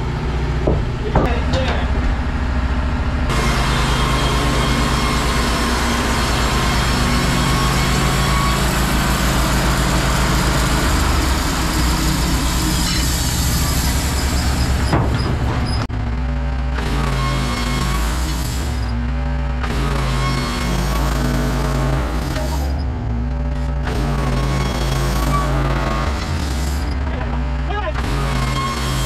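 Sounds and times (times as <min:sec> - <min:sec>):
sawmill engine drone: 0:00.0 - 0:29.0
band saw cutting log: 0:03.3 - 0:15.9, 0:16.8 - 0:19.0, 0:19.6 - 0:29.0.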